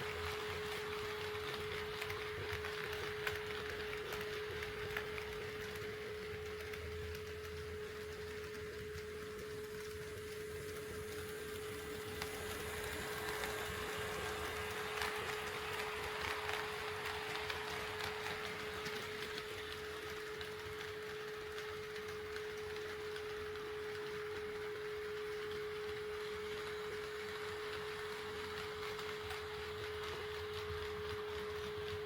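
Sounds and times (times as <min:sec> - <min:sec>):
model train wheels rolling: 0:00.0 - 0:32.0.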